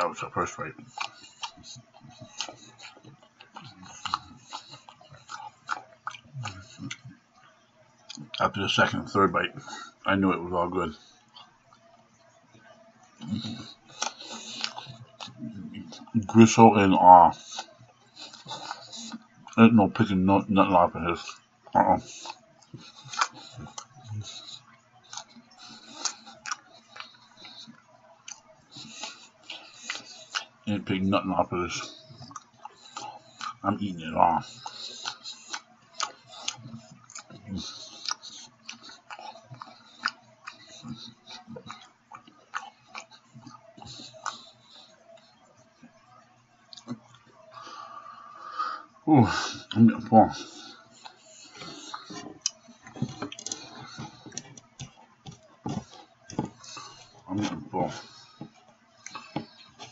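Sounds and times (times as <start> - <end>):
man chewing food: 0.0 - 59.9.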